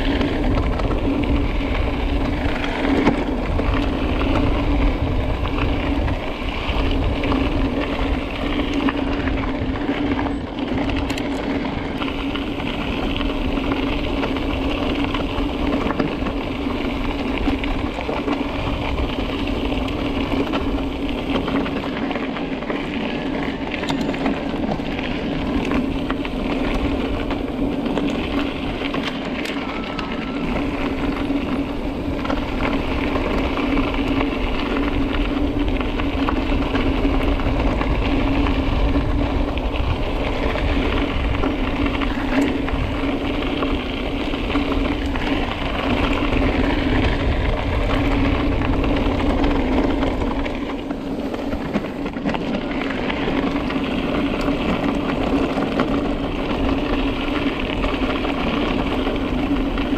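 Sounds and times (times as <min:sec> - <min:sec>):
bike hum and rattle: 0:00.0 - 0:59.9
bike tyres rolling on trail: 0:00.0 - 0:59.9.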